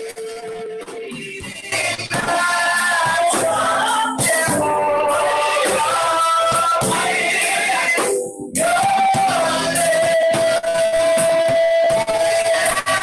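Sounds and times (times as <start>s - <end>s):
instrumental accompaniment: 0.0s - 13.0s
voices singing worship song: 0.0s - 13.0s.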